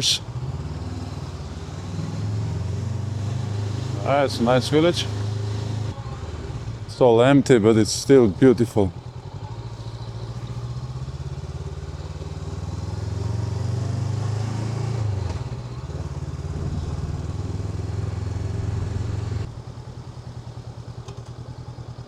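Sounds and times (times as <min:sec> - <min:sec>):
motorcycle engine at low speed: 0:00.0 - 0:22.0.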